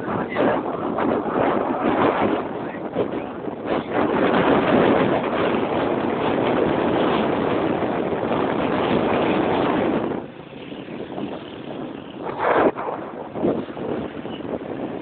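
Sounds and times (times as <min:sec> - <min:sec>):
wind rushing over microphone: 0:00.0 - 0:15.0
road noise: 0:01.7 - 0:15.0.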